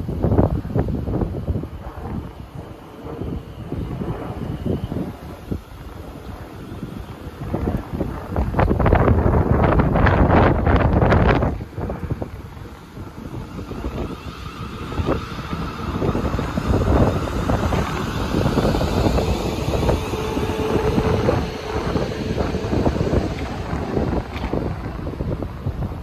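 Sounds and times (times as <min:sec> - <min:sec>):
steady hum: 0:00.0 - 0:26.0
train rumble and rail hiss: 0:00.0 - 0:26.0
wind buffeting microphone: 0:00.0 - 0:26.0.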